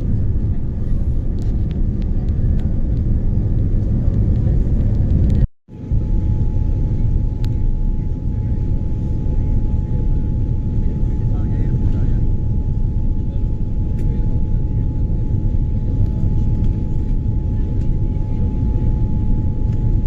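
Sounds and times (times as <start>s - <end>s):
airliner engines and airflow rumble: 0.0s - 20.0s.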